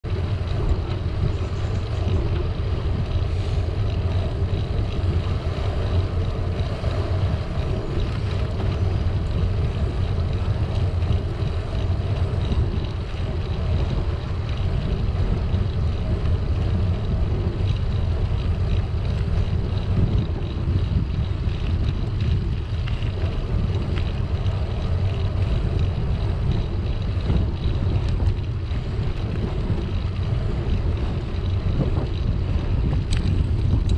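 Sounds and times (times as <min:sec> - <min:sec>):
bicycle tyres rolling on tarmac: 0:00.0 - 0:33.9
wind buffeting microphone: 0:00.0 - 0:33.9.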